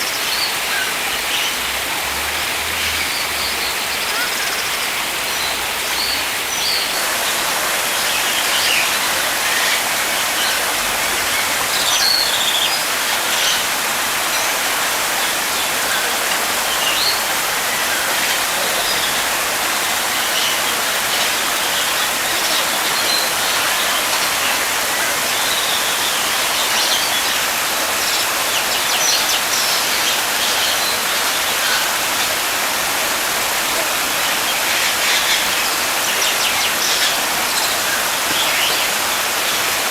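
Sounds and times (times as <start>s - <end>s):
small birds chirping: 2.8s - 39.9s
steady rushing hiss: 4.9s - 39.9s.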